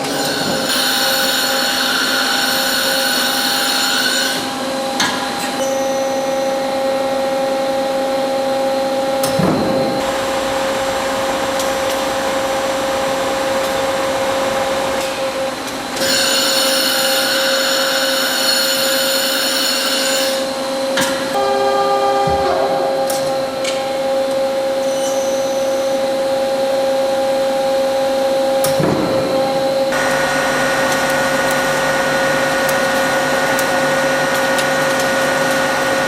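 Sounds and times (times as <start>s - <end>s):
machining center whine: 4.4s - 18.9s, 20.4s - 36.0s.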